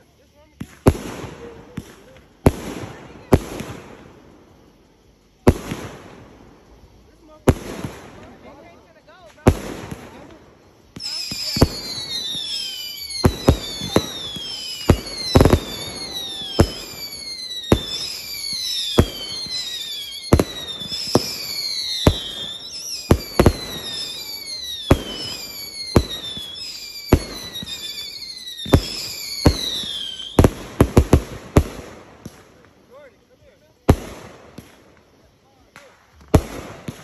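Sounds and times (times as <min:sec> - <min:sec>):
falling firework whistles: 0:00.0 - 0:37.0
firework bangs: 0:00.5 - 0:04.8, 0:05.4 - 0:33.0, 0:33.8 - 0:37.0.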